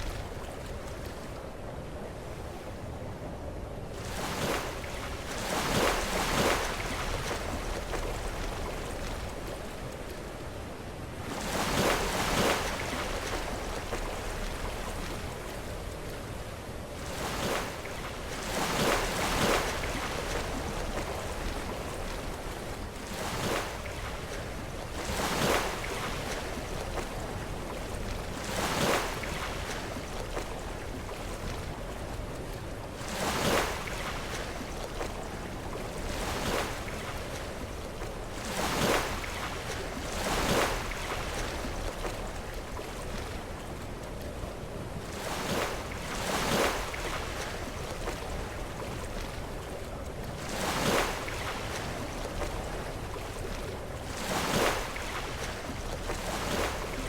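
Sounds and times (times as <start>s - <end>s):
low rumble of surf: 0.0s - 57.0s.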